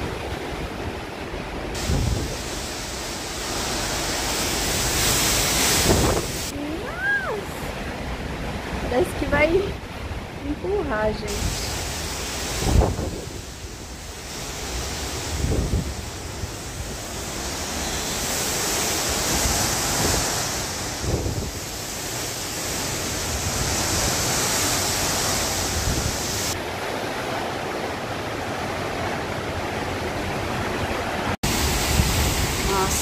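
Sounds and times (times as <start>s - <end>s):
strong wind blowing: 0.0s - 26.6s, 30.2s - 33.0s
wind buffeting microphone: 0.0s - 26.8s, 30.1s - 33.0s.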